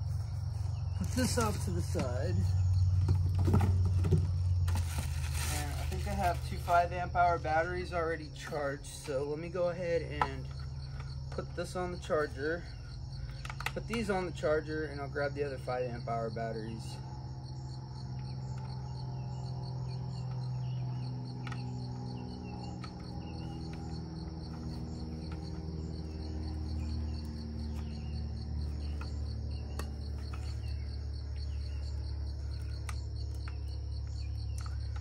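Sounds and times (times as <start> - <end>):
insects chirping: 0.0 - 35.0
low hum: 0.0 - 35.0.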